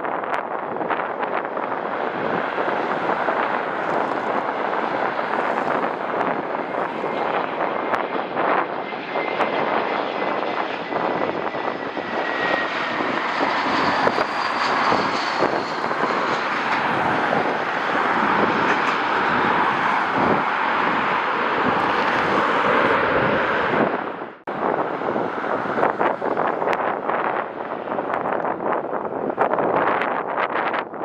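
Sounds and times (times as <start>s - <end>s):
jet engine whine: 0.0s - 31.0s
jet engines roaring: 0.0s - 31.0s.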